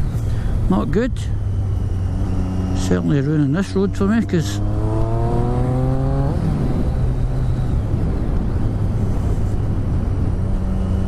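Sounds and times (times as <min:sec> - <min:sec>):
motorcycle engine revving: 0:00.0 - 0:11.0
wind and road noise: 0:00.0 - 0:11.0.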